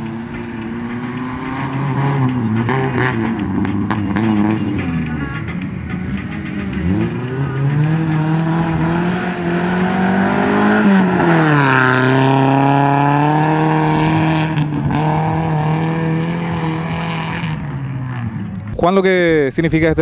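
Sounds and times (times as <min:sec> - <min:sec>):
rally car engine passing: 0:00.0 - 0:18.7.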